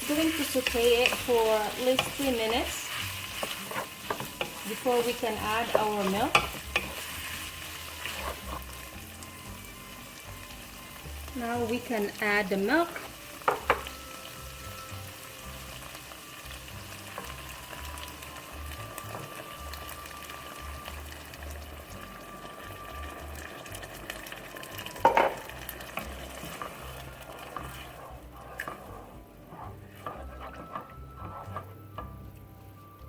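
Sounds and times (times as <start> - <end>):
food sizzling in a pan: 0.0 - 32.9.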